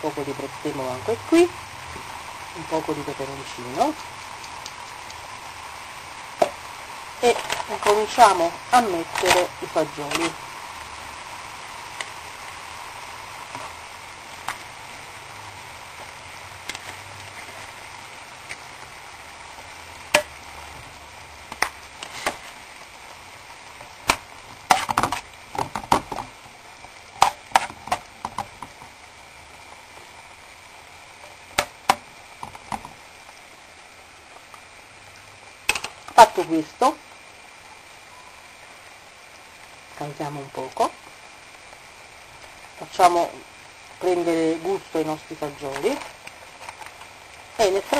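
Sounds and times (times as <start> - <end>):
sauce sizzling: 0.0 - 47.9.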